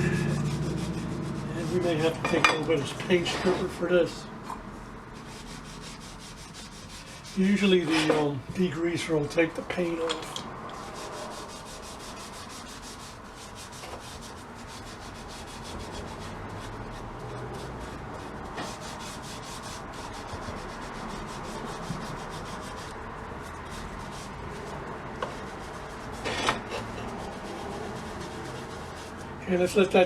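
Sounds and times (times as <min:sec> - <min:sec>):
hand scrubbing: 0:00.0 - 0:30.0.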